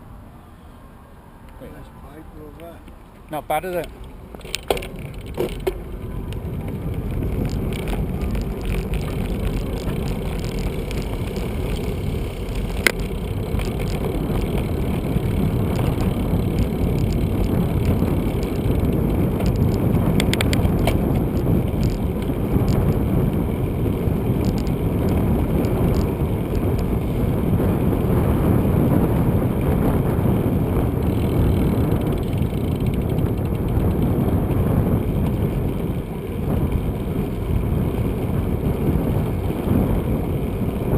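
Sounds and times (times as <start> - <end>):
bicycle tyre road noise: 0.0 - 40.9
wind on microphone: 4.4 - 40.9.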